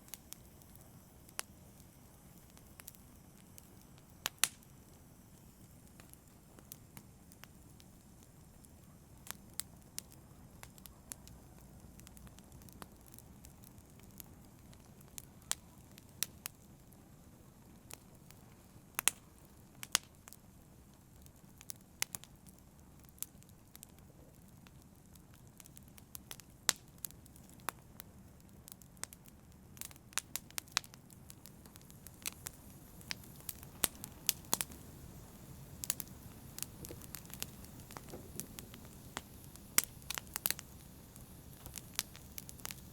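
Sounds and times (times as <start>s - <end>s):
burning wood crackling and popping: 0.0s - 42.9s
low rumble of flames: 0.0s - 42.9s.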